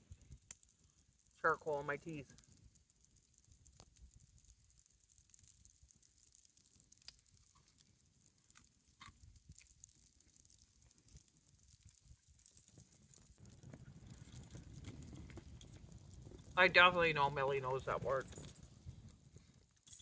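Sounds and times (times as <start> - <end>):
faint ticks and crackles: 0.0 - 20.0.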